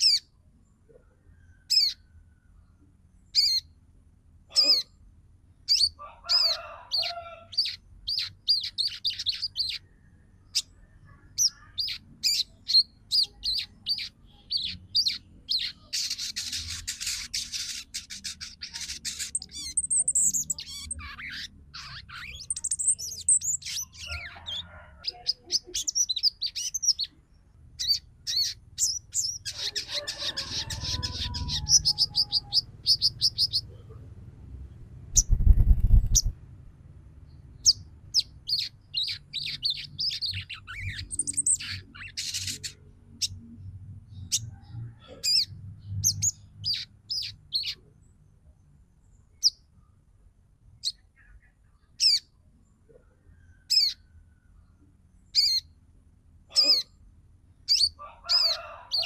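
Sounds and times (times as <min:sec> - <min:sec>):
bird chirping: 0:00.0 - 0:03.8, 0:04.5 - 0:36.4, 0:37.2 - 0:49.9, 0:50.8 - 0:55.8, 0:56.5 - 0:59.0.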